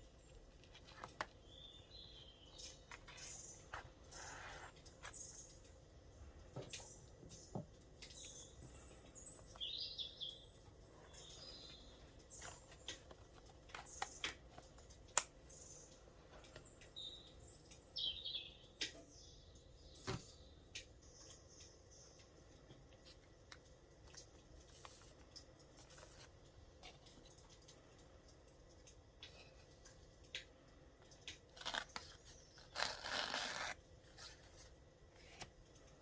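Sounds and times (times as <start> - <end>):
songbirds chirping: 0.0 - 36.0.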